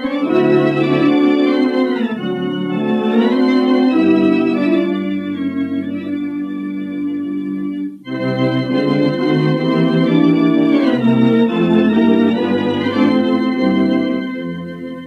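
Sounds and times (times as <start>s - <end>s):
theatre organ playing chords: 0.0s - 15.0s.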